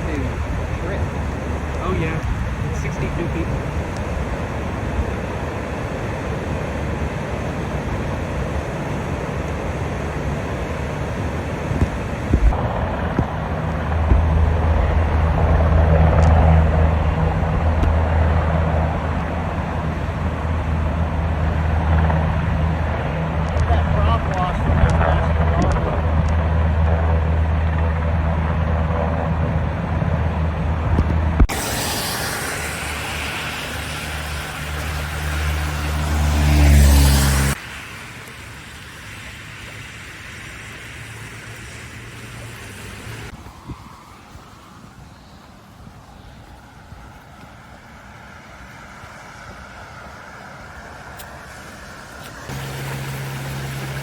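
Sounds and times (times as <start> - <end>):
constant rushing noise: 0.0 - 54.0
low engine hum: 0.0 - 54.0.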